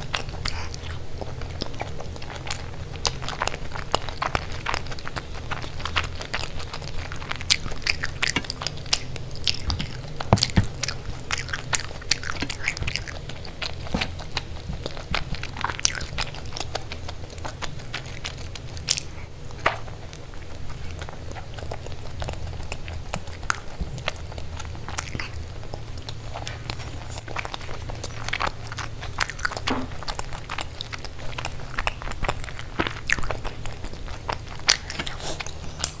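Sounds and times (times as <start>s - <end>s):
crunchy bites and chewing: 0.0s - 36.0s
steady low hum: 0.0s - 36.0s.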